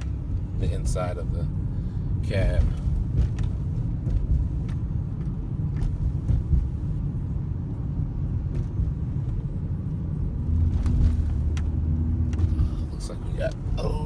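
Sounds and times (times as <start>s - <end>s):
car engine rumble from cabin: 0.0s - 14.0s
road noise: 0.0s - 14.0s.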